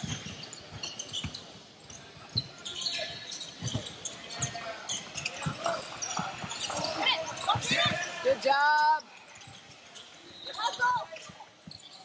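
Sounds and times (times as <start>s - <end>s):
sneaker squeaks: 0.0s - 12.0s.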